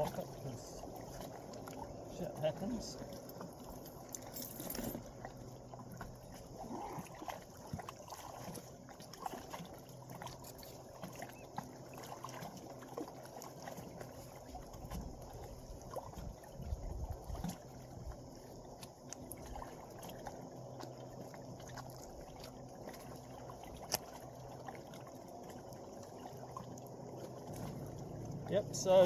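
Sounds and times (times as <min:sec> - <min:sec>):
water sloshing at shoreline: 0:00.0 - 0:29.0.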